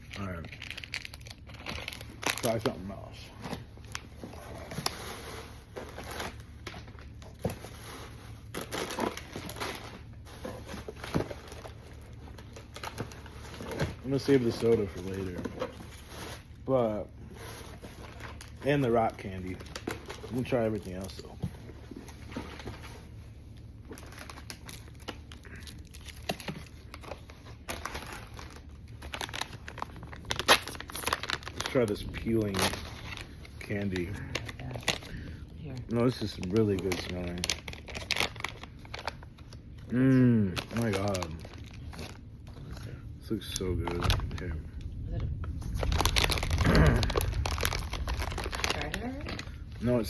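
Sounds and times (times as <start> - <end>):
plastic packaging crinkling: 0.0 - 50.0.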